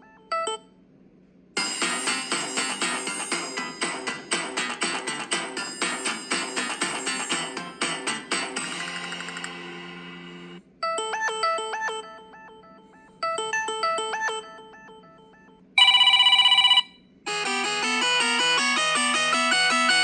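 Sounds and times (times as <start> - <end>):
ringtone melody: 0.0 - 0.7, 1.6 - 9.5, 10.2 - 20.0.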